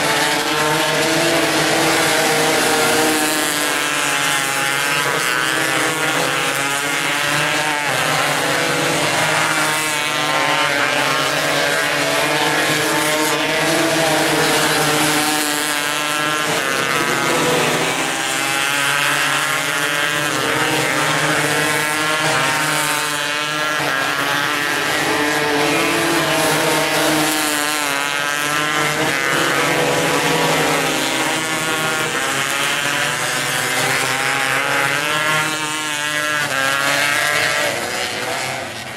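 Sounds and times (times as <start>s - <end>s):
race car engines racing: 0.0s - 38.9s.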